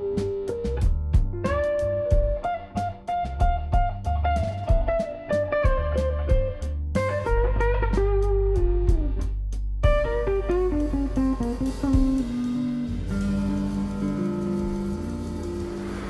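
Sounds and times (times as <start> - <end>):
guitar-led instrumental music: 0.0 - 16.0.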